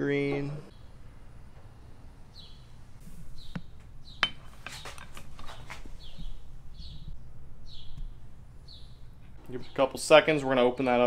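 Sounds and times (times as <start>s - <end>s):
bird chirping: 0.7s - 10.1s.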